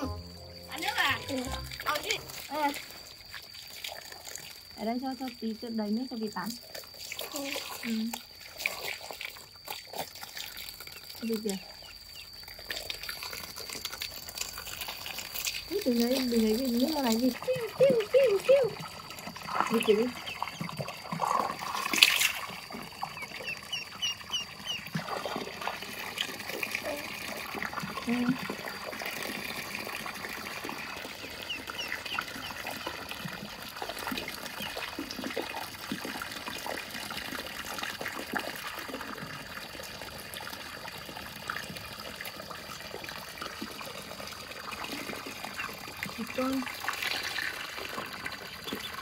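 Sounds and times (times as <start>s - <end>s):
hose water splashing into pool: 0.0s - 49.0s.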